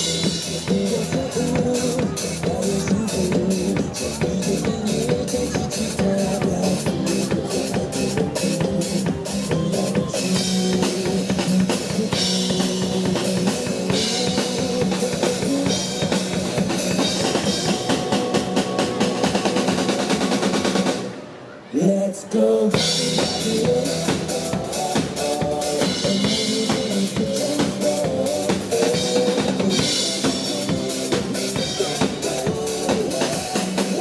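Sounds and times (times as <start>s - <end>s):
drum kit played fast: 0.0s - 21.2s, 22.7s - 34.0s
pop-rock backing track: 0.0s - 21.2s, 22.7s - 34.0s.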